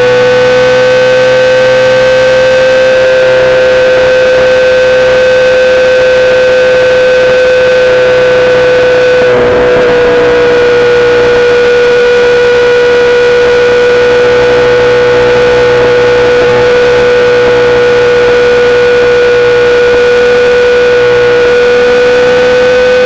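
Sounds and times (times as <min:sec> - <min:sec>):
motorcycle engine running steadily: 0:00.0 - 0:23.0.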